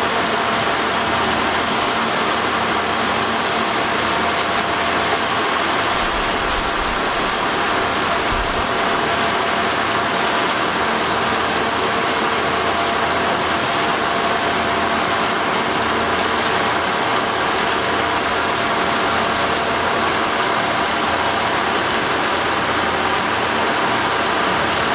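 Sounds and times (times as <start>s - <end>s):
steady mid-pitched hum: 0.0s - 24.9s
track machine running: 0.0s - 24.9s.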